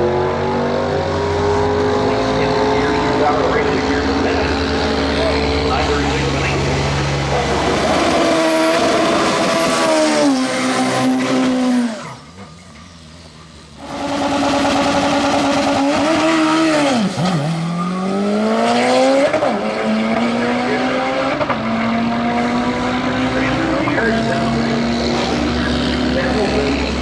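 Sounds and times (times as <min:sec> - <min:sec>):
racing car engine revving: 0:00.0 - 0:27.0.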